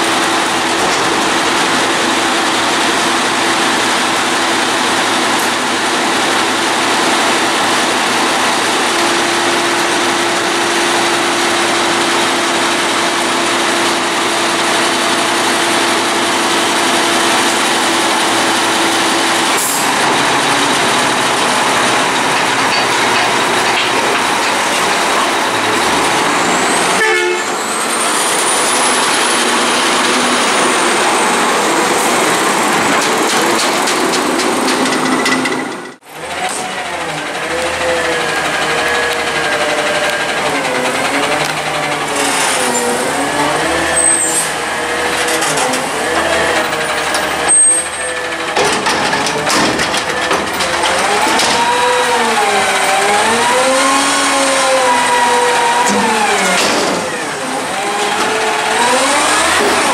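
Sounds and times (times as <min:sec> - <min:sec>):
garbage truck engine running: 0:00.0 - 0:59.9.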